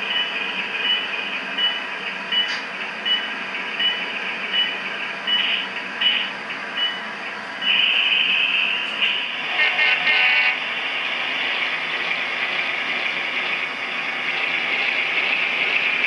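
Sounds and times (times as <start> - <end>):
model locomotive running: 0.0 - 16.0.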